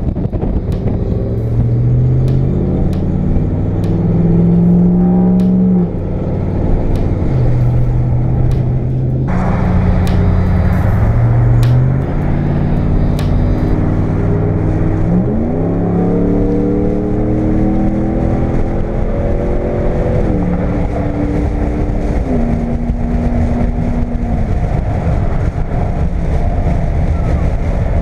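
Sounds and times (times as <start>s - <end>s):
pickup engine accelerating: 0.0s - 28.0s
road noise: 0.0s - 28.0s.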